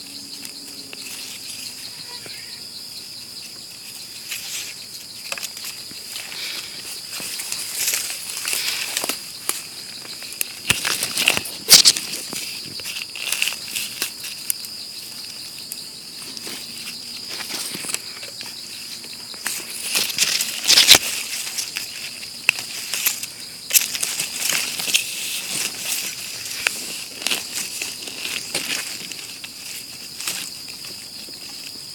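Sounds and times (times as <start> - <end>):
insect chorus: 0.0 - 31.9
leaf litter rustling: 3.4 - 31.9.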